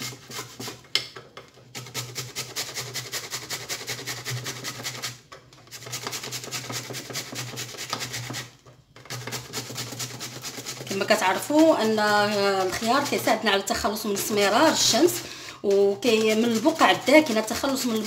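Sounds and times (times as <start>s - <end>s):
cucumber rasping on metal grater: 0.0s - 0.8s, 1.7s - 18.0s.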